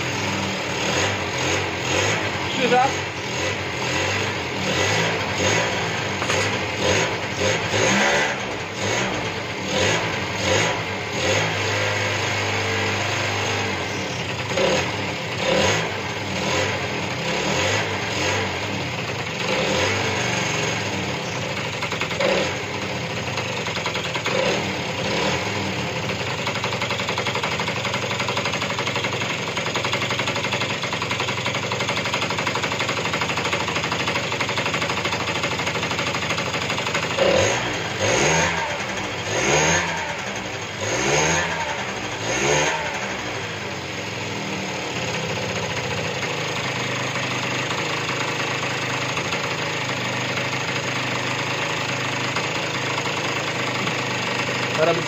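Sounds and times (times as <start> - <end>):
scooter engine revving and idling: 0.0 - 55.0.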